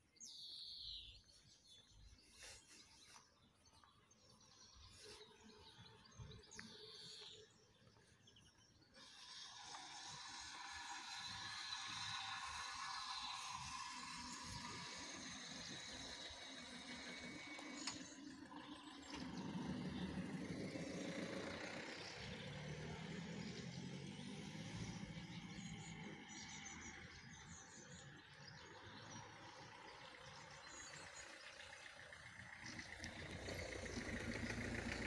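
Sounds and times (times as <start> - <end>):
faint vehicle engine rumble: 0.0 - 35.0.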